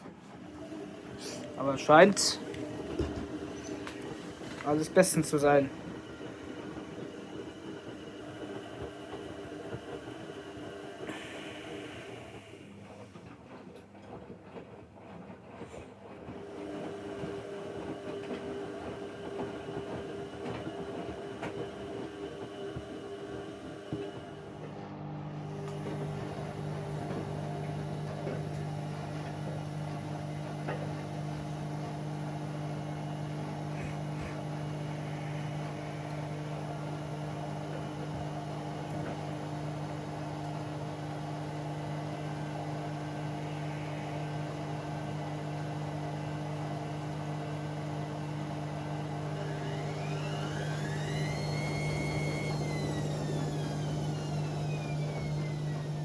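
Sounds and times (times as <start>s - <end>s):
washing machine drain pump hum: 0.0s - 56.0s
washing machine drum motor whine: 0.0s - 56.0s.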